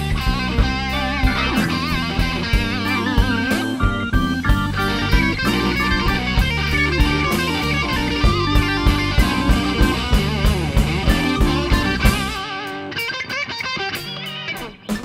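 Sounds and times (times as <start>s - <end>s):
bass: 0.0s - 12.5s
drum kit beat: 0.0s - 15.0s
electric guitar: 0.0s - 15.0s.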